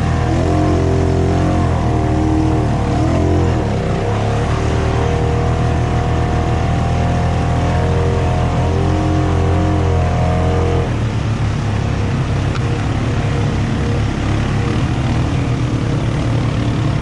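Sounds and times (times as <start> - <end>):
atv engine running hard: 0.0 - 17.0.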